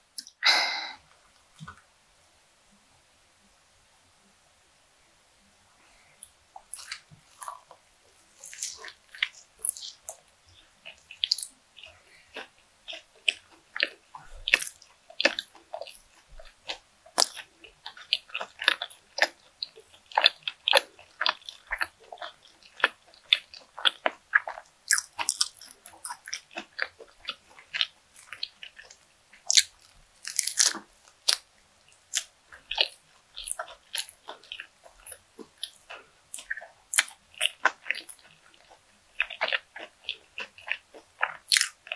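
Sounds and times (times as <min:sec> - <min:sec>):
crunchy chewing: 0:06.1 - 0:41.9.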